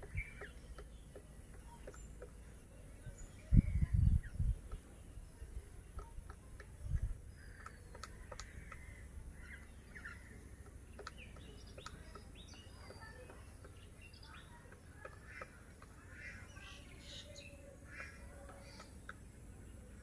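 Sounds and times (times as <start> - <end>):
birds chirping and calling: 0.0 - 20.0
woodpecker tapping on wood: 0.0 - 20.0.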